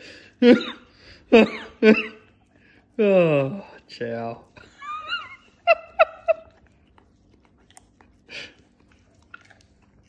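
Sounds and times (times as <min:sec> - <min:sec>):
dog licking and chewing: 0:01.9 - 0:10.0.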